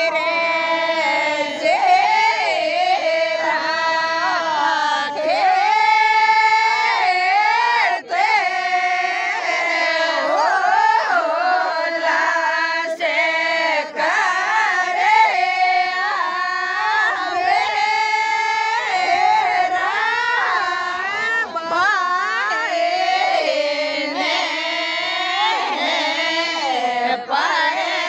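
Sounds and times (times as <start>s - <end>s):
group of women singing: 0.0s - 28.0s.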